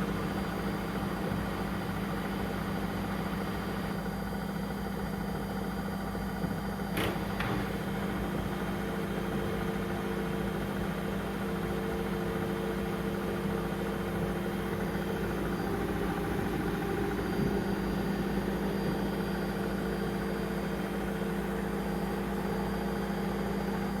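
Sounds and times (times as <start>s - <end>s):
washing machine motor hum: 0.0s - 24.0s.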